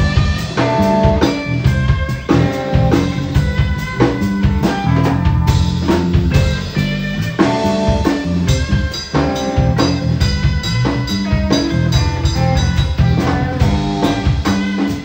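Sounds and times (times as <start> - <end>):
electric guitar single notes: 0.0 - 15.0
live band with drums: 0.0 - 15.0.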